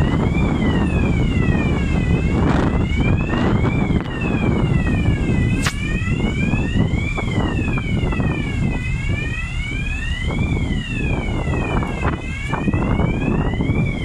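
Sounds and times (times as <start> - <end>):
wailing emergency siren: 0.0 - 14.0
wind rumble on microphone: 0.0 - 14.0.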